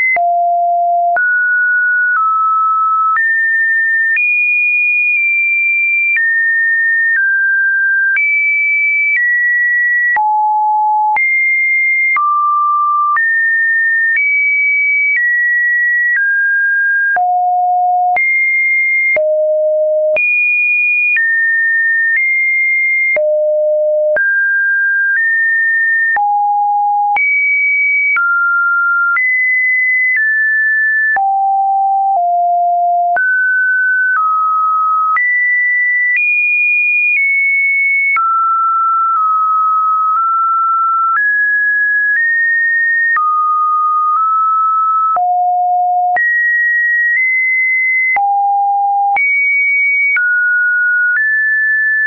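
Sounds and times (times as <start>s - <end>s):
sine wave beeps: 0.0s - 52.0s.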